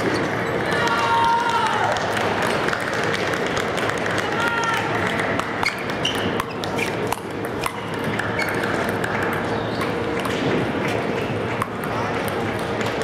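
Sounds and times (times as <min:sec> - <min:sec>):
steady background din: 0:00.0 - 0:13.0.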